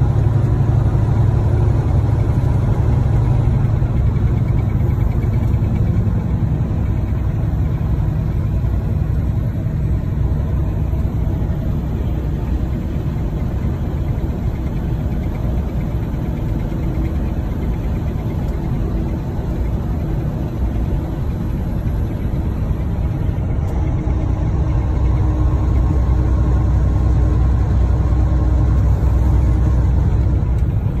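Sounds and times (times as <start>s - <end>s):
truck engine and road noise: 0.0s - 31.0s.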